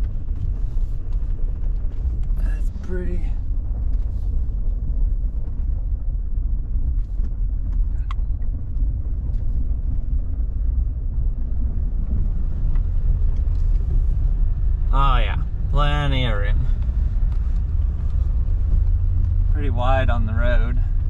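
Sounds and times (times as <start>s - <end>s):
engine and road noise rumble: 0.0s - 21.0s.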